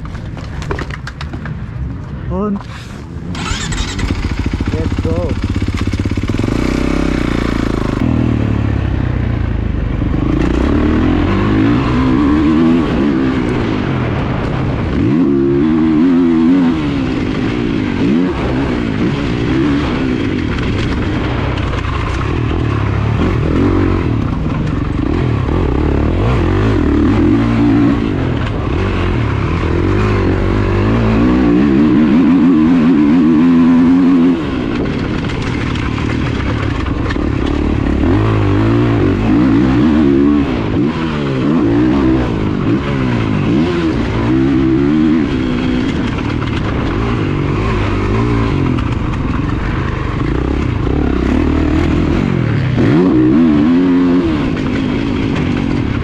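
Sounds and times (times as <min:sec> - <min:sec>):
motocross bike engine revving: 0:03.2 - 0:56.0.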